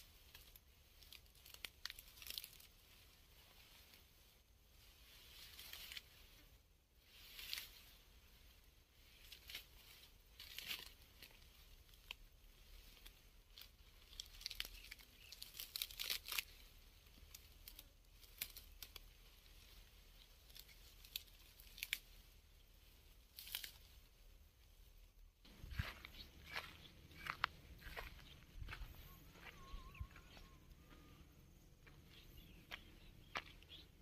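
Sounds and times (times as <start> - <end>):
dry grass rustling: 0.0 - 34.0.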